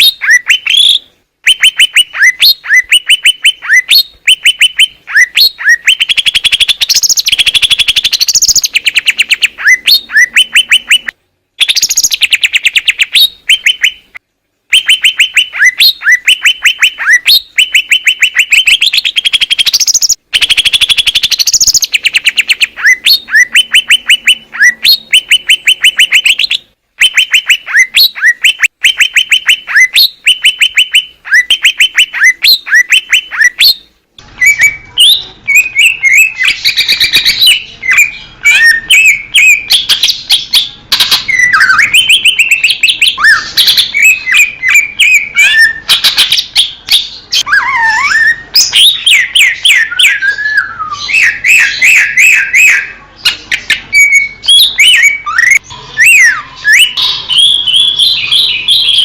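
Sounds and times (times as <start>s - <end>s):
bird whistling: 0.0s - 14.1s, 14.7s - 59.0s
bird chattering song: 0.0s - 59.0s.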